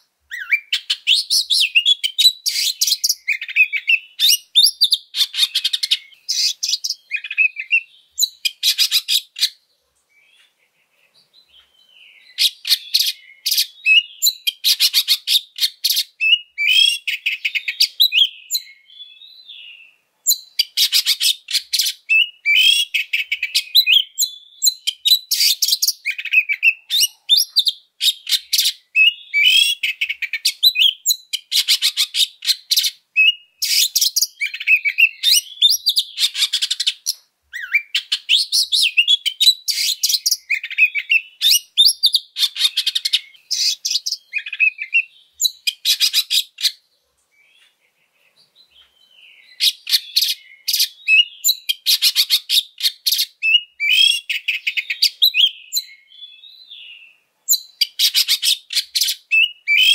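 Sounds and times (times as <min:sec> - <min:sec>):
bird singing loudly: 0:00.0 - 0:09.6, 0:10.2 - 0:47.7, 0:48.3 - 0:59.9.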